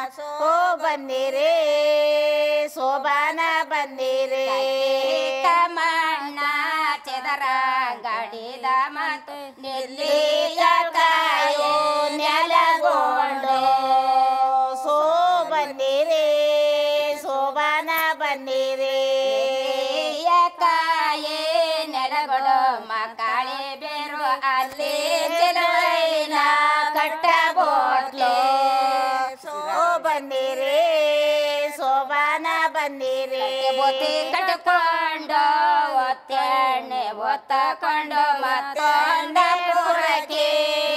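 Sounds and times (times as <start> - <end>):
woman singing: 0.0 - 40.9.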